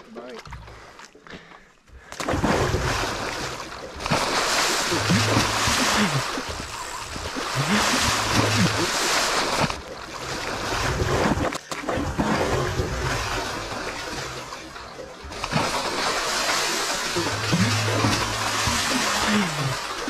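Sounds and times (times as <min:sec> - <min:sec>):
fish thrashing and splashing: 0:00.2 - 0:20.0.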